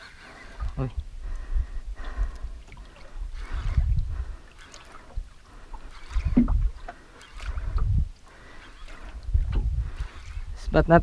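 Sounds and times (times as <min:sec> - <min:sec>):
gusting wind on microphone: 0:00.0 - 0:11.0
water lapping at boat hull: 0:00.0 - 0:11.0.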